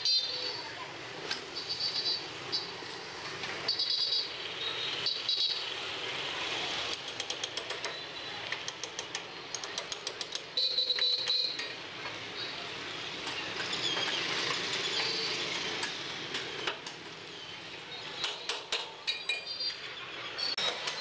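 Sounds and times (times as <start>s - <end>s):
workshop background noise: 0.0s - 21.0s.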